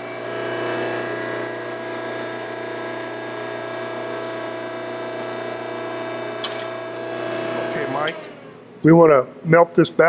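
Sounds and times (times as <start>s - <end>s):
hydraulic press pump humming: 0.0s - 8.8s.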